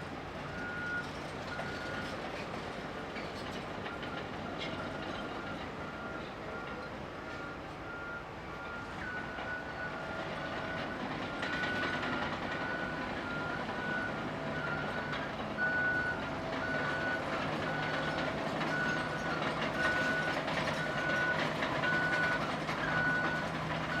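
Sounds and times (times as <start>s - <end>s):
bulldozer diesel engine running: 0.0s - 24.0s
reversing alarm beeping: 0.5s - 2.1s, 3.9s - 24.0s.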